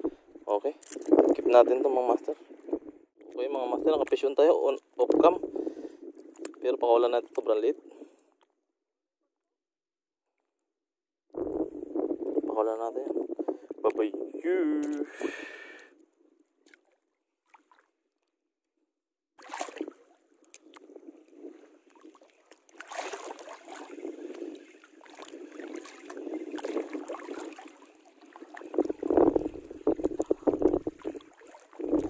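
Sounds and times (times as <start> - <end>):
water lapping against boat hull: 0.0 - 8.5, 11.3 - 18.4, 19.4 - 32.0.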